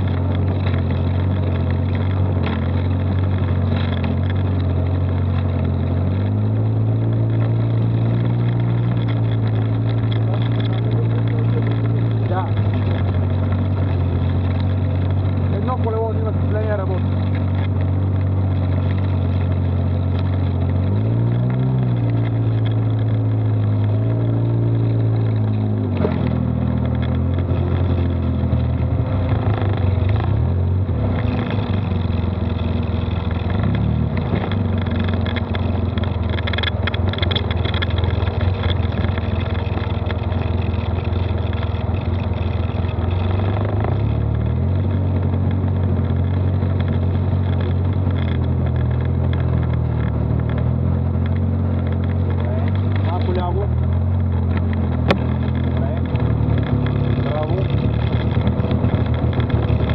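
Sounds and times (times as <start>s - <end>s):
vehicle engine revving: 0.0s - 59.9s.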